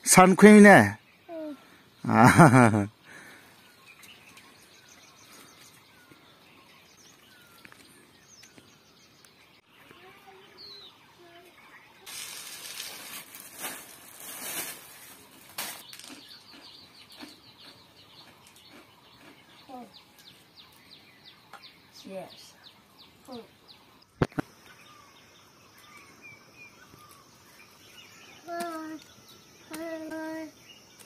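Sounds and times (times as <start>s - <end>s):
faint bird chirps: 1.0s - 31.0s.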